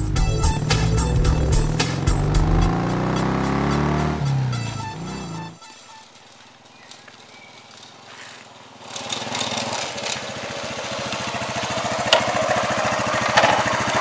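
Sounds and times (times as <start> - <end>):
motorcycle engine running: 0.0 - 5.7, 6.7 - 14.0.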